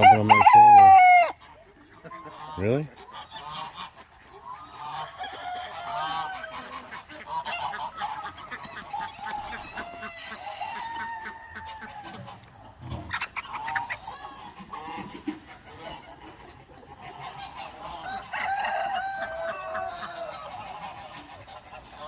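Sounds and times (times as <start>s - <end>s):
geese honking: 0.0s - 22.0s
poultry calling: 0.0s - 22.0s.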